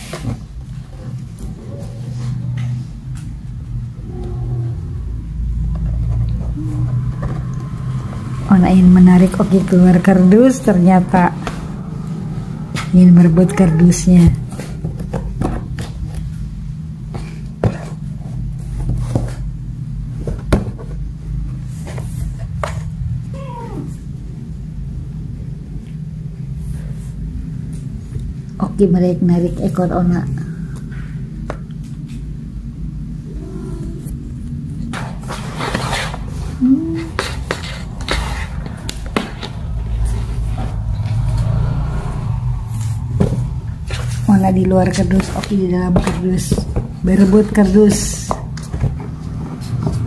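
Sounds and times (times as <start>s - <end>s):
steady low rumble: 0.4s - 50.0s.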